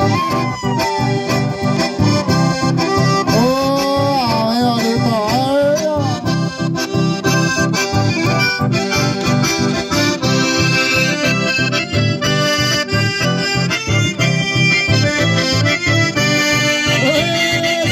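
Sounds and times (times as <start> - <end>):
steady bass beat: 0.0 - 17.8
acoustic guitar: 0.0 - 17.9
button accordion music: 0.0 - 17.9.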